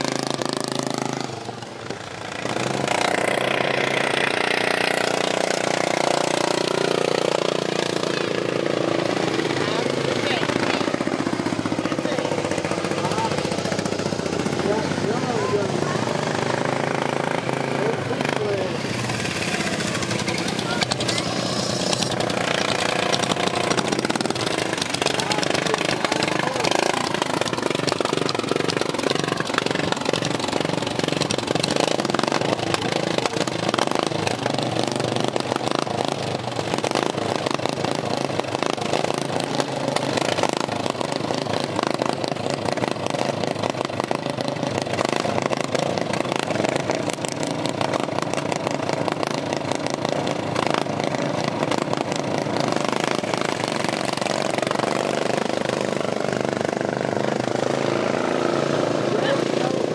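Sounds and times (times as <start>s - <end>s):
lawn mower engines racing: 0.0s - 59.9s.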